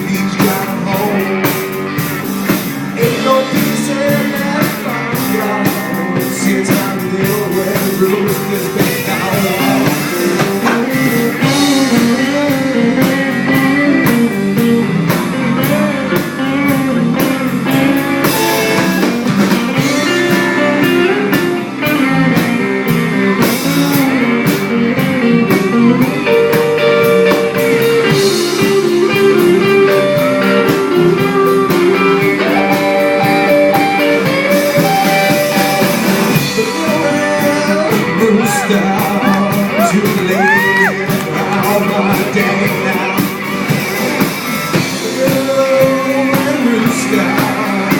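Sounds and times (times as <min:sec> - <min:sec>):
guitar melody: 0:00.0 - 0:47.9
steady drum beat: 0:00.0 - 0:47.9.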